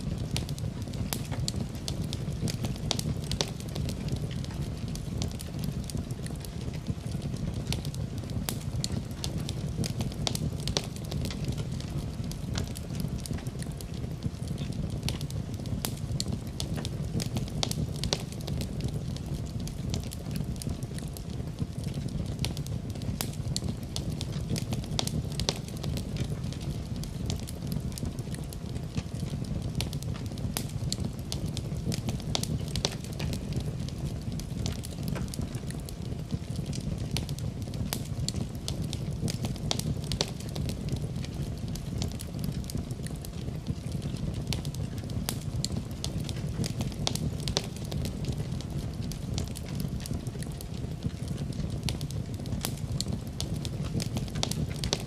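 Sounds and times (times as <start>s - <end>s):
fire crackles and pops: 0.0s - 55.0s
fire rumbling: 0.0s - 55.0s.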